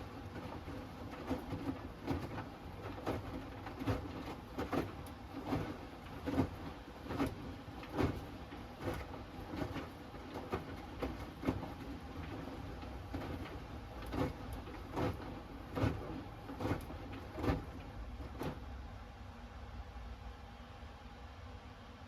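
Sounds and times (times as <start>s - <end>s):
washing machine running: 0.0s - 22.0s
laundry thumping in drum: 0.3s - 18.6s.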